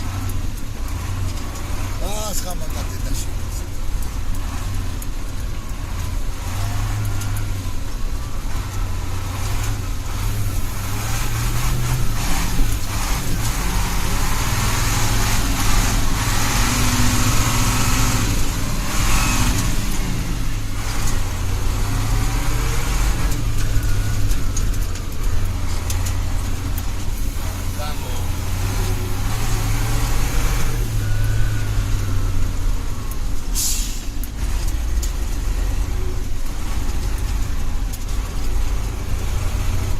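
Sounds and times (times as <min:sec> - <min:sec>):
truck diesel engine rumbling: 0:00.0 - 0:39.9.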